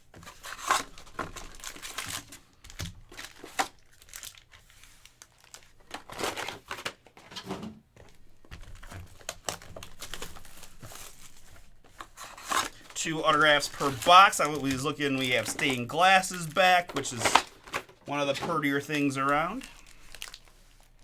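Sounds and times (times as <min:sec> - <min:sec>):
plastic packaging crinkling: 0:00.1 - 0:07.3, 0:08.0 - 0:21.0.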